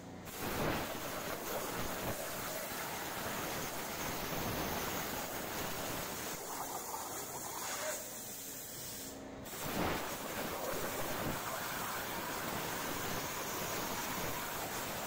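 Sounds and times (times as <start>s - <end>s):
plasma arc firing burst: 0.3s - 15.0s
plasma torch hissing: 0.3s - 15.0s
soft air hiss: 0.3s - 15.0s.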